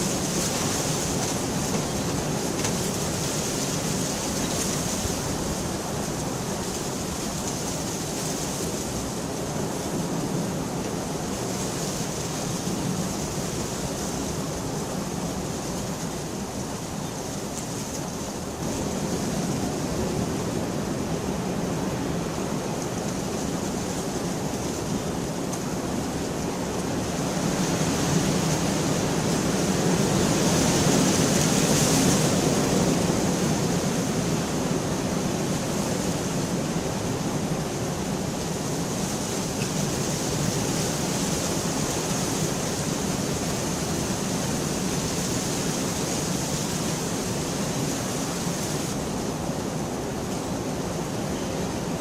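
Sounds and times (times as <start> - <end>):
heavy rainfall: 0.0 - 52.0.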